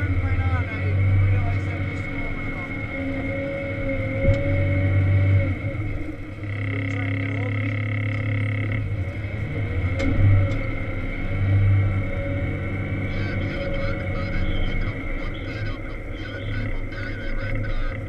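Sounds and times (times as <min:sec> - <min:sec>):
diesel engine running under load: 0:00.0 - 0:18.0
high-pitched whine: 0:00.0 - 0:18.0
mid-pitched whine: 0:00.0 - 0:18.0.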